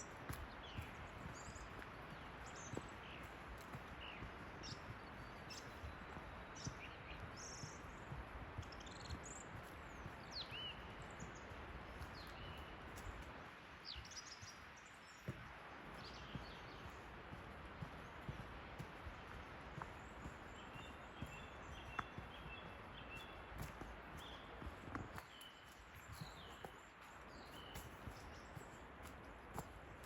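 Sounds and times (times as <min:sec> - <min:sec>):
footsteps on forest track: 0:00.0 - 0:30.0.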